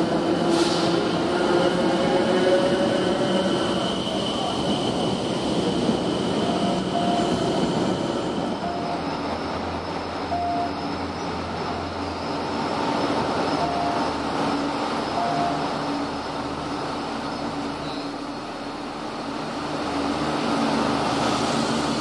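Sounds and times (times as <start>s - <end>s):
diesel train engine rumble: 0.0s - 22.0s
electric train whine: 0.0s - 22.0s.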